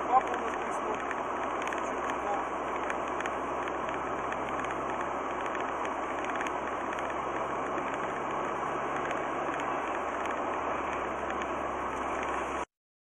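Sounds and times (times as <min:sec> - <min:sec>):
car road and engine noise: 0:00.0 - 0:12.7.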